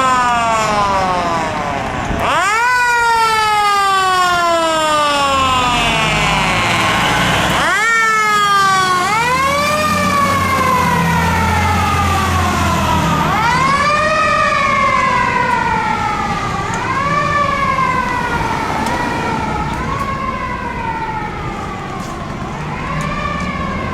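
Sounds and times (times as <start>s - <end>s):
engine rumble: 0.0s - 23.9s
fire engine siren wailing: 0.0s - 23.9s.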